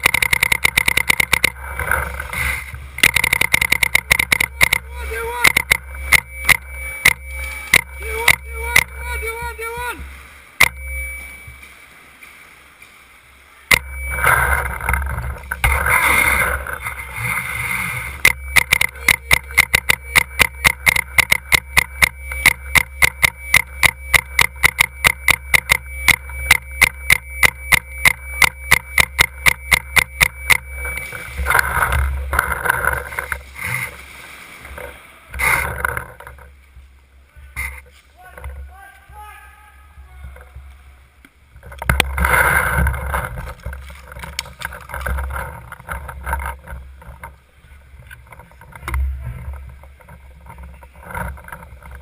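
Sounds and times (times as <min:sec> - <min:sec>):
bursts of noise: 0:00.0 - 0:52.0.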